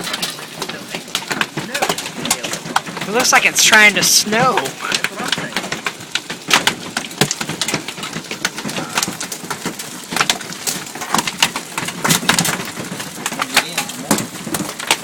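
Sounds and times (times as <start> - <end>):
rain with hail falling: 0.0 - 15.0.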